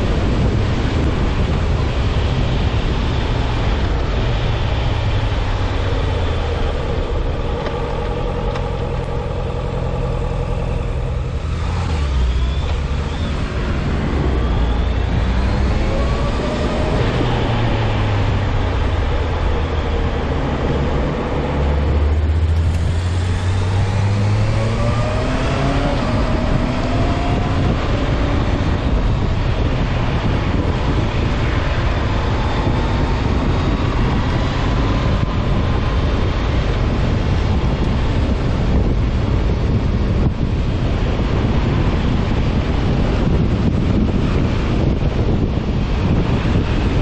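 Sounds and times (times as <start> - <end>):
motorcycle engine revving: 0.0 - 47.0
wind noise on microphone: 0.0 - 47.0.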